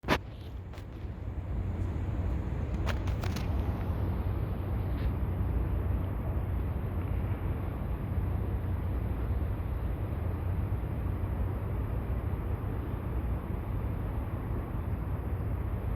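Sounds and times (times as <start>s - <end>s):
low harbour rumble: 0.0s - 15.9s.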